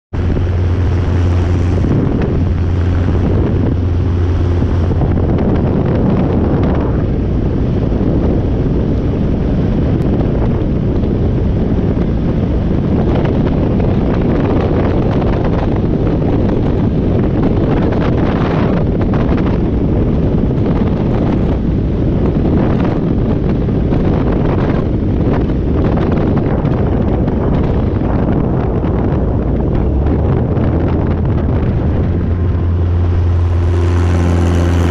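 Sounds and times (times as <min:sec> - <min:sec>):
wind buffeting microphone: 0:00.1 - 0:34.9
helicopter drone: 0:00.2 - 0:34.9
steady low hum: 0:00.2 - 0:34.9.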